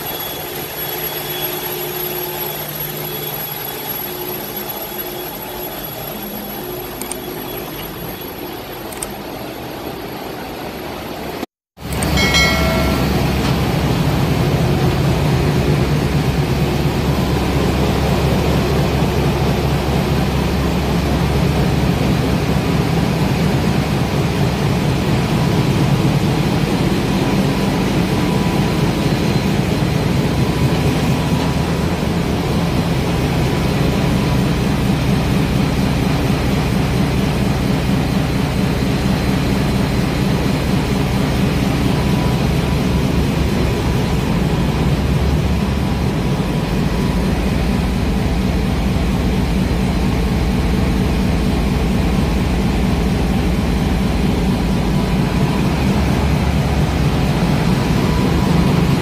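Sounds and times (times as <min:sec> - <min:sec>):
diesel generator engines droning: 0:00.0 - 0:59.0.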